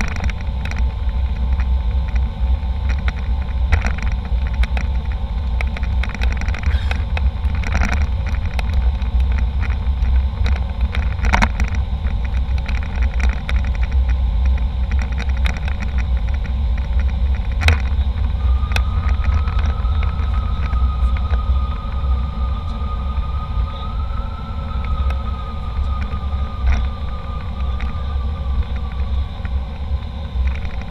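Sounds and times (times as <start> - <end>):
airliner cabin rumble: 0.0 - 30.9
thin steady whine: 0.0 - 30.9.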